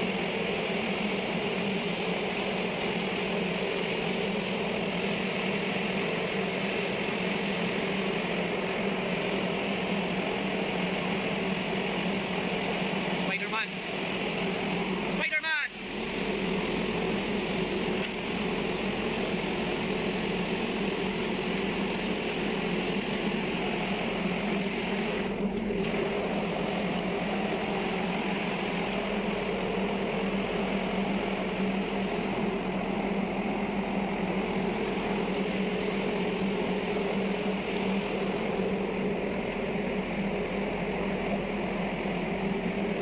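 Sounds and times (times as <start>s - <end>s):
machinery drone: 0.0s - 43.0s.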